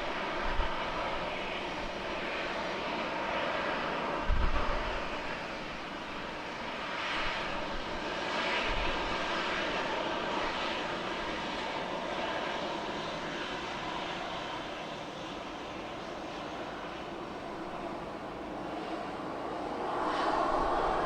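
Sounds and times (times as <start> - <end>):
jet engines at takeoff: 0.0 - 21.0.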